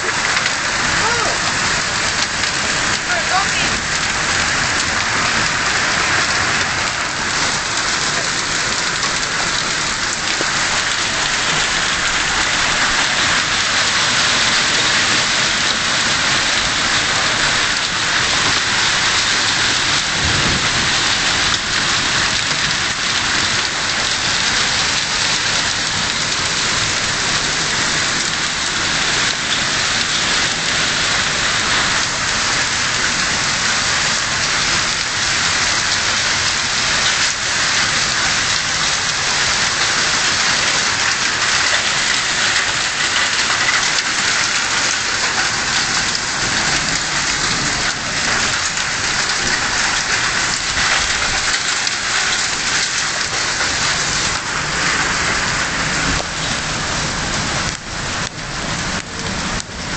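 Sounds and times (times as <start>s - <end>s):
heavy hail hitting roof: 0.0s - 59.8s.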